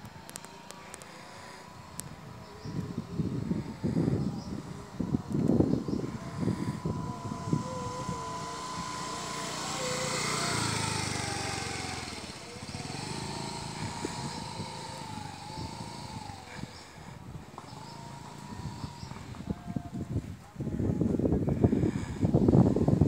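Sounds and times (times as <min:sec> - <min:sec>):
motor scooter engine whining: 0:00.0 - 0:23.0.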